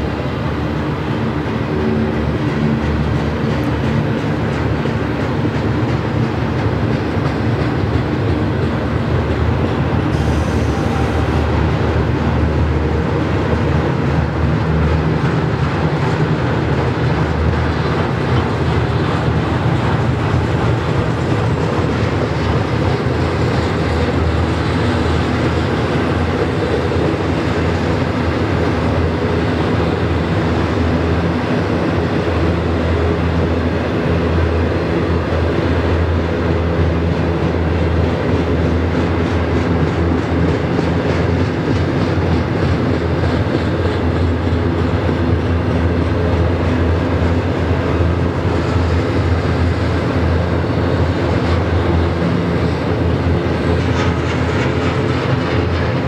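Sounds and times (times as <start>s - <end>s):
steel train wheels rumbling on rails: 0.0s - 56.0s.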